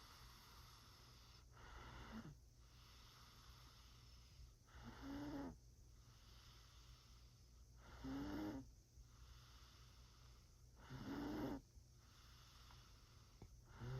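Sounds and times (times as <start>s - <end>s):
rasping snores: 0.0s - 7.1s, 7.8s - 10.2s, 10.8s - 13.0s, 13.7s - 13.9s.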